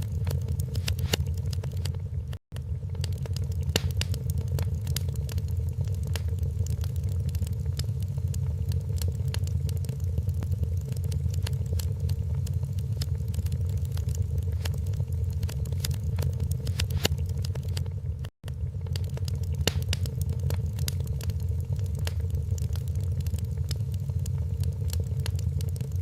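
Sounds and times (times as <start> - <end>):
steady low rumble: 0.0 - 26.0
wood fire crackling and popping: 0.0 - 26.0.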